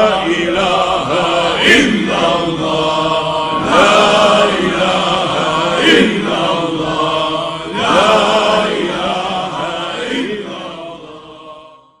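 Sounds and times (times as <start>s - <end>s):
voices chanting: 0.0s - 11.8s.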